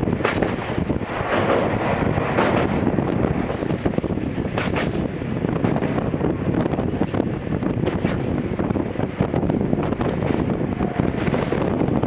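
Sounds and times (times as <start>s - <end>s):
rushing air noise: 0.0s - 12.0s
train wheels rumbling: 0.0s - 12.0s.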